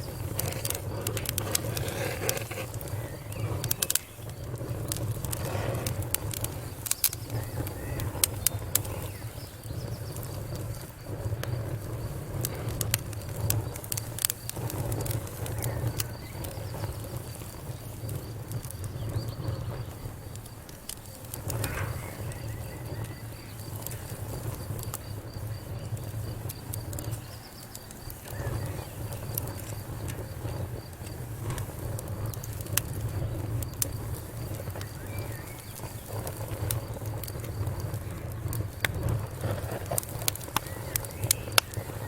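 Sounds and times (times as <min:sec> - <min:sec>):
low rumble of flames: 0:00.0 - 0:42.0
wood fire crackling and popping: 0:00.0 - 0:42.0.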